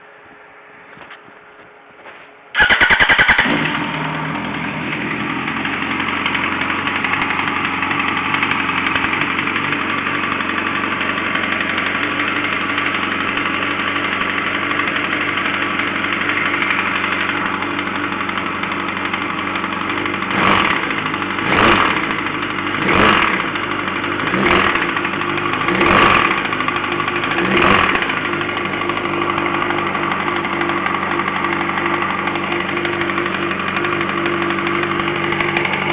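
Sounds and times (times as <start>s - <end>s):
engine revving: 2.6s - 35.9s
motorcycle engine idling: 2.6s - 35.9s.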